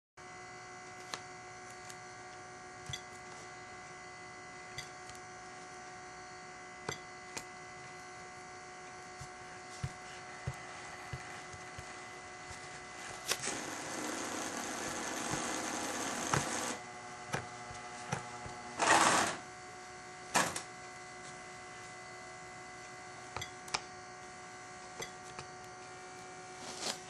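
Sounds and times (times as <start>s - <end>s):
faint electrical hum: 0.2s - 27.0s.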